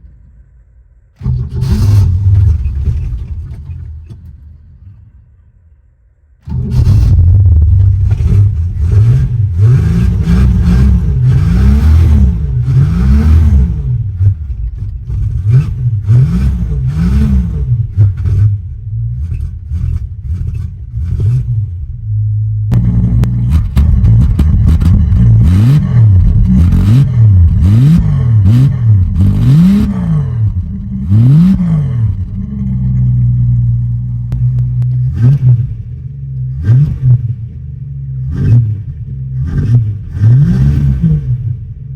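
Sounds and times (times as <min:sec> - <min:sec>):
car engine idling: 0:00.0 - 0:36.6
car engine revving: 0:01.1 - 0:03.5, 0:06.4 - 0:41.9.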